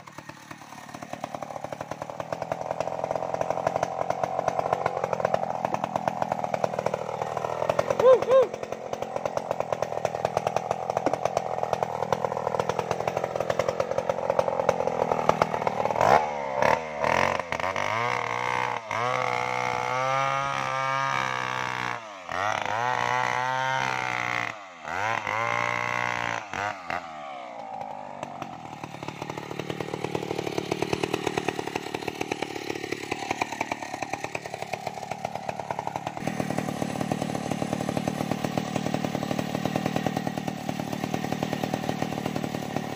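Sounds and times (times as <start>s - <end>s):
chainsaw cutting tree trunk: 0.0s - 42.9s.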